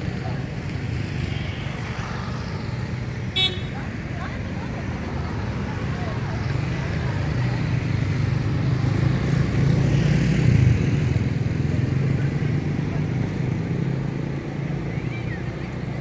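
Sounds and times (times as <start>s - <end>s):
passing cars and motorcycles: 0.0s - 16.0s.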